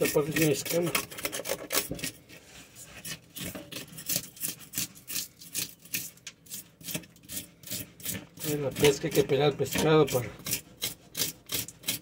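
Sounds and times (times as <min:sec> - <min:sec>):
knife scraping fish scales: 0:00.0 - 0:12.0.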